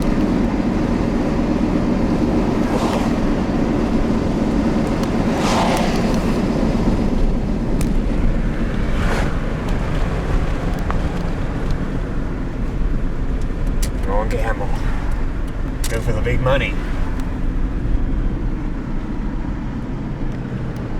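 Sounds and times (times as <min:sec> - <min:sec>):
car driving road noise: 0:00.0 - 0:20.9
passing traffic: 0:00.0 - 0:20.9.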